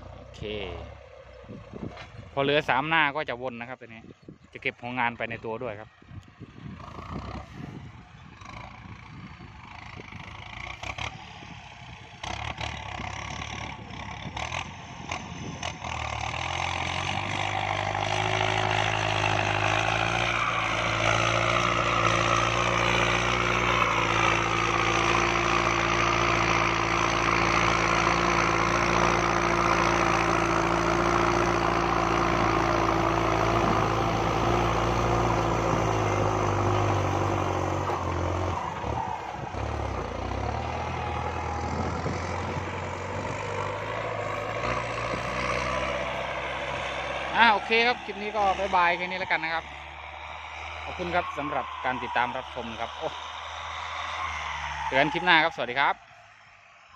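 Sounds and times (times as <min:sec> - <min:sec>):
tractor diesel engine running: 0:05.7 - 0:56.1.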